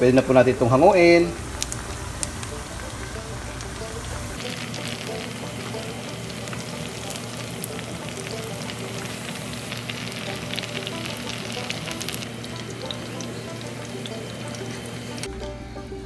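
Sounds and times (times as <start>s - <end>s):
oil sizzling: 0.0s - 16.0s
crackling pops: 1.3s - 15.3s.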